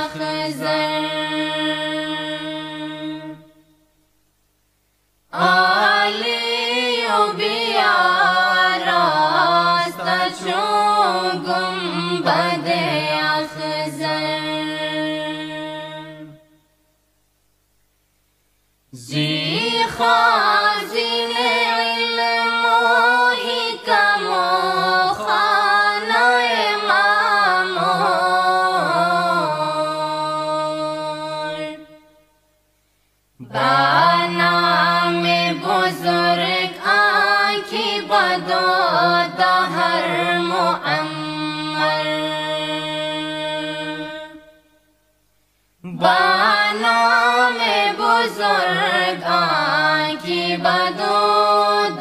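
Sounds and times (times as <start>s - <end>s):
solo voice chanting: 0.0s - 3.9s, 5.3s - 16.7s, 18.9s - 32.4s, 33.4s - 45.1s, 45.8s - 52.0s.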